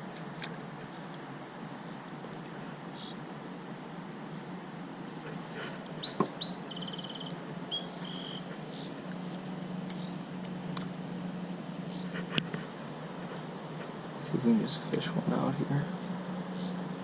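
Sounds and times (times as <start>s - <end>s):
outdoor background noise: 0.0s - 17.0s
songbird singing: 0.0s - 17.0s.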